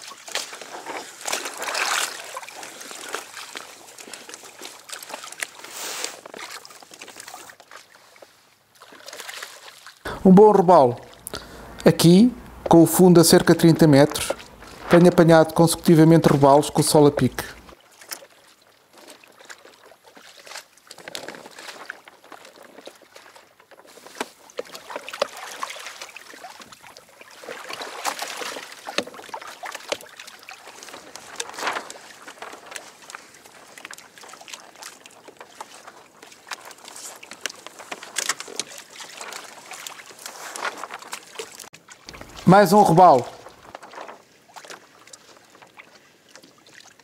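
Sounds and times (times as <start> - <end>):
water splashing against hull: 0.0 - 47.0.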